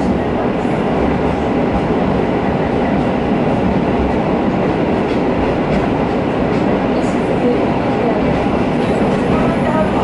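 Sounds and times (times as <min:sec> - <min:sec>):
railcar rumbling through tunnel: 0:00.0 - 0:10.0
wheels clickety-clack on rails: 0:00.0 - 0:10.0.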